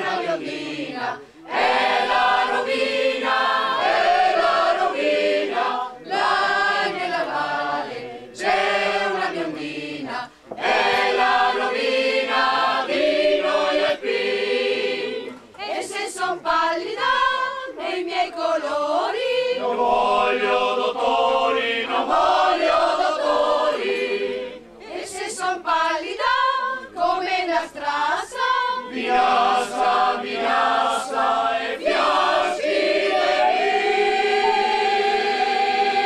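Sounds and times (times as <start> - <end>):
mixed choir singing unaccompanied: 0.0 - 36.0.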